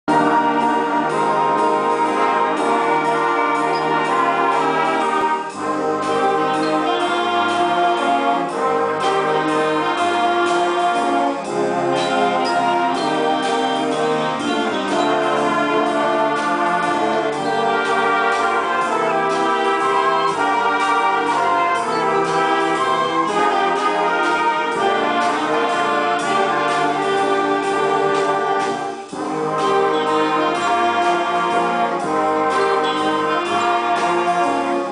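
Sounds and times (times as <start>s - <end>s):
concert band playing: 0.0s - 34.9s.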